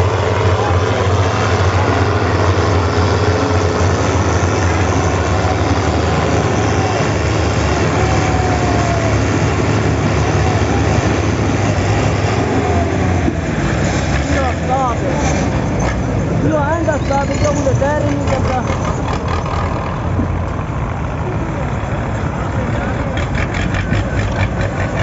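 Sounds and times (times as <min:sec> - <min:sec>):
tractor diesel engines running: 0:00.0 - 0:25.0.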